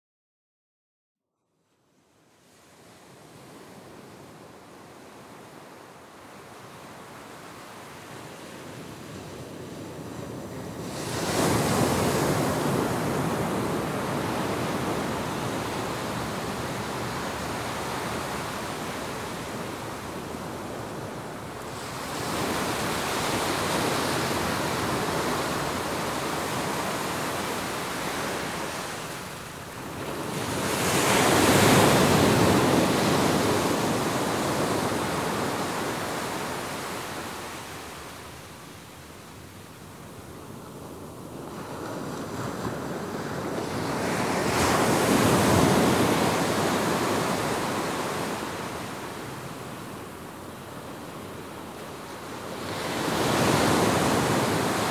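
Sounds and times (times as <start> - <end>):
waves breaking on beach: 6.5 - 39.7, 40.5 - 54.9.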